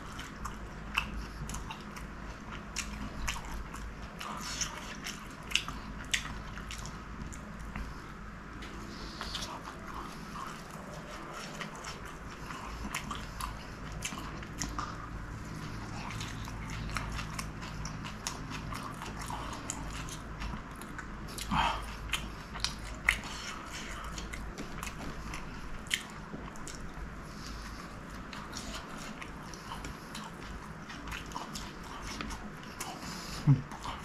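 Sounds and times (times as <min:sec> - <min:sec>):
chewing and biting food: 0:00.0 - 0:34.0.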